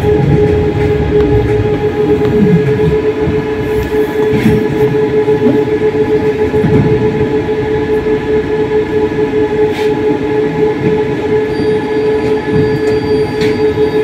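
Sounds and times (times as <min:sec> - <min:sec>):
tram motor whine: 0:00.0 - 0:14.0
wheels rumbling on rails: 0:00.0 - 0:14.0.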